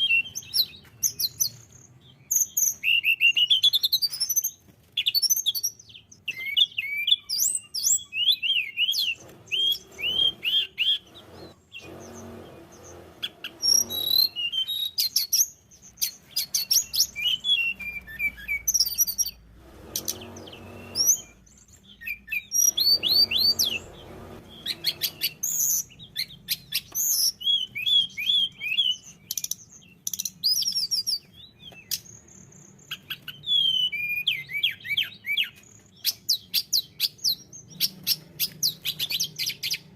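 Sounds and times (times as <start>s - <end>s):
small bird singing whistles and trills: 0.0s - 39.9s.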